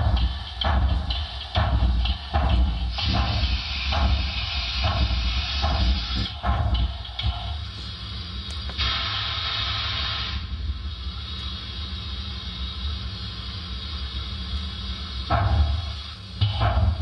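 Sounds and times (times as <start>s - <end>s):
deep locomotive rumble: 0.0s - 17.0s
steam hissing: 0.0s - 17.0s.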